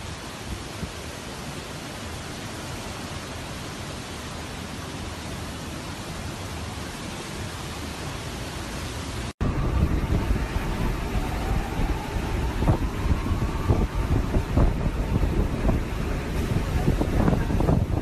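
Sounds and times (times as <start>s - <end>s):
heavy rain: 0.0s - 18.0s
strong wind: 0.0s - 18.0s.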